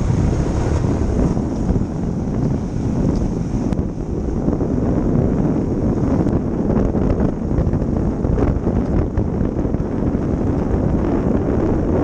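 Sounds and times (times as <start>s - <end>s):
motorcycle engine rumble: 0.0s - 12.0s
wind buffeting microphone: 0.0s - 12.0s.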